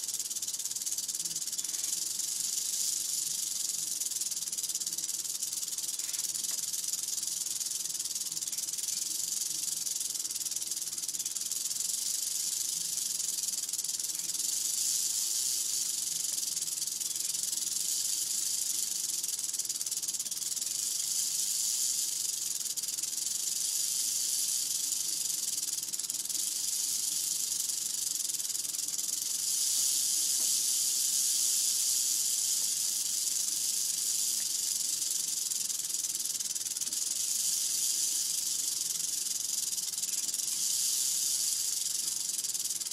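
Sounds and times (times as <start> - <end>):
rattlesnake tail rattle buzzing: 0.0 - 42.9.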